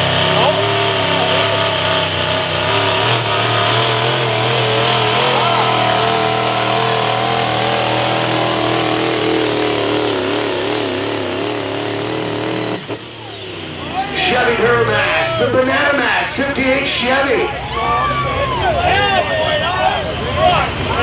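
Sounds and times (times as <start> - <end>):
diesel truck engine under load: 0.0 - 21.0.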